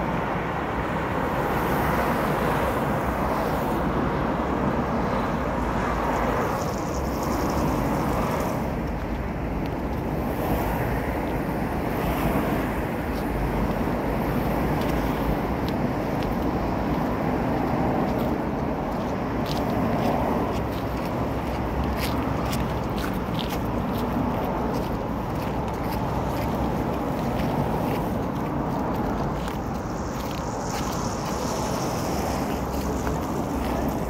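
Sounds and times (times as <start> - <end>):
traffic rumble: 0.0 - 34.0
wind on microphone: 0.0 - 34.0.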